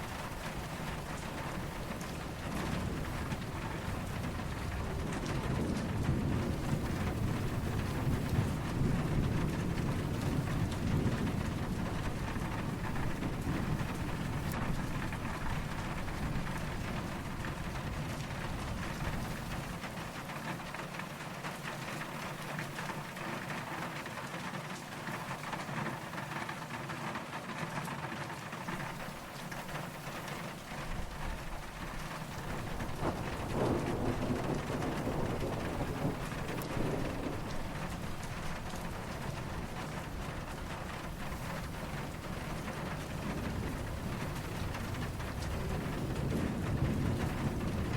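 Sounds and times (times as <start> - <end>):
distant thunder rumbling: 0.0 - 23.9, 28.6 - 47.9
steady rain falling: 0.0 - 47.9.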